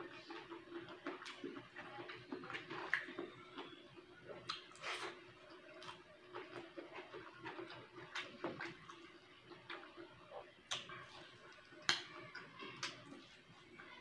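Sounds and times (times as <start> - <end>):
chewing and lip smacks: 0.0 - 13.4.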